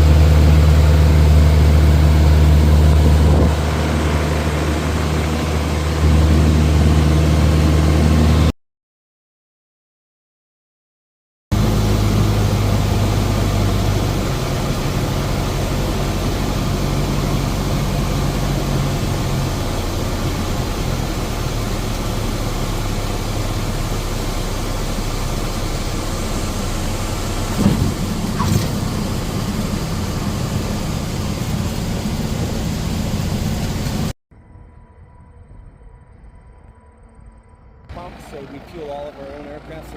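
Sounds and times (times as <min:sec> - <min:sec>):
aircraft engine droning: 0:00.0 - 0:08.5, 0:11.5 - 0:39.9.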